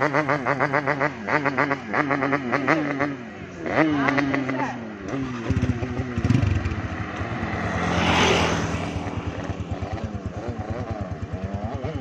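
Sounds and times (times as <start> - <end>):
motorcycle engine pulsing: 0.0 - 12.0.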